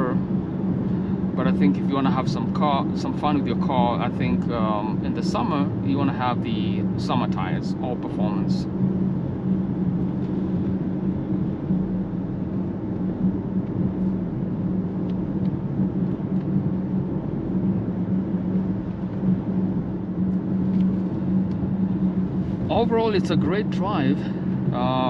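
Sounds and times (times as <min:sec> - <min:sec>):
car engine drone inside cabin: 0:00.0 - 0:25.0.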